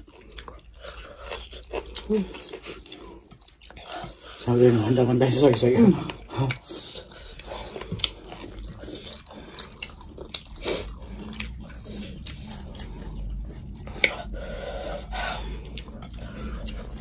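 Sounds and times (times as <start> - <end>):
people chewing and crunching: 0.0 - 17.0.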